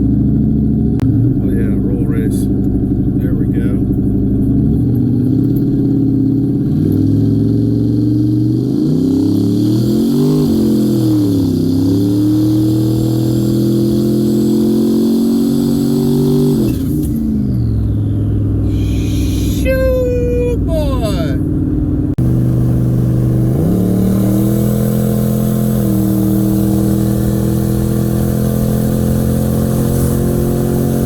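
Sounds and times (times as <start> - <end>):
vehicle engine accelerating: 0.0 - 31.0.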